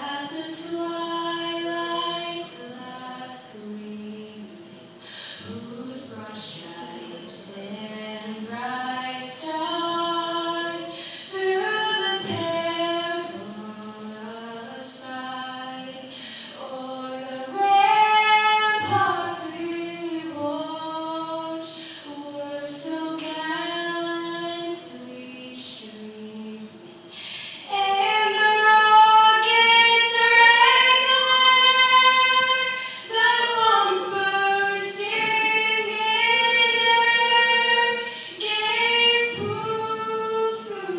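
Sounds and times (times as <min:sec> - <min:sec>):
woman singing unaccompanied: 0:00.0 - 0:40.9.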